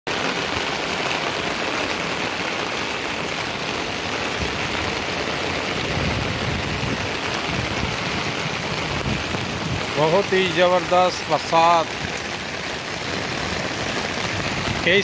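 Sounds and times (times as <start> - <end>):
heavy rain pouring: 0.1 - 15.0
rainwater running over paving: 0.1 - 15.0.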